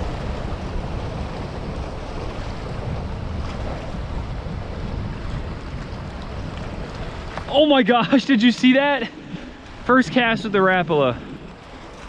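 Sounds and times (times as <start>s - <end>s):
waves splashing against boulders: 0.0s - 12.0s
wind buffeting microphone: 0.0s - 12.0s.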